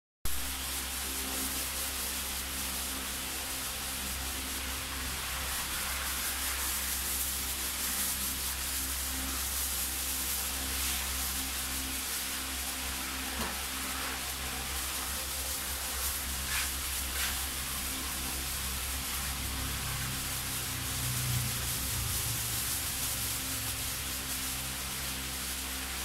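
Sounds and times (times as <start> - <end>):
low electrical hum: 0.3 - 26.0
steady hiss: 0.3 - 26.0.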